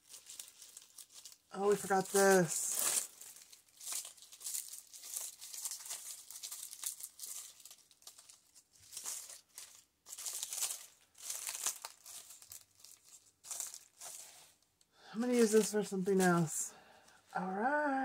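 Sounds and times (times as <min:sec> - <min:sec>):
dry leaves crackling and rustling: 0:00.0 - 0:14.6, 0:15.2 - 0:16.6.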